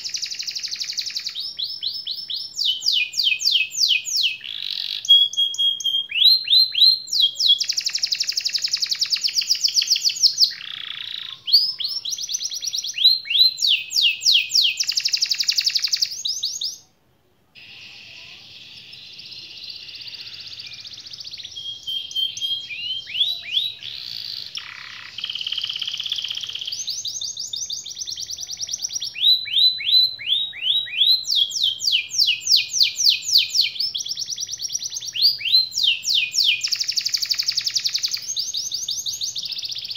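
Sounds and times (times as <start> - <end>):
canary singing trills: 0.0 - 16.9, 17.6 - 39.9.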